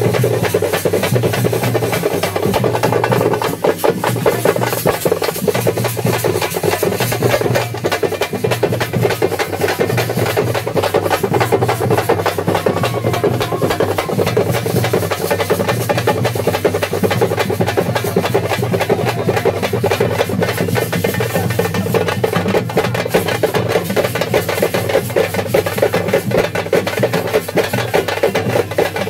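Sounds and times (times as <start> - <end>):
fast continuous drumming: 0.0 - 29.0.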